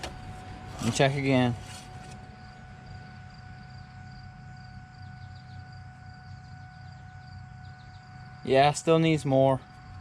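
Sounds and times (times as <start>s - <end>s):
faint crickets chirping: 0.0s - 10.0s
steady low hum: 0.0s - 10.0s.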